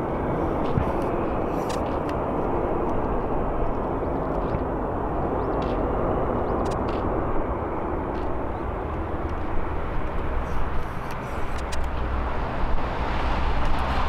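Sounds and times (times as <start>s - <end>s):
jet engines at takeoff thrust: 0.0s - 14.0s.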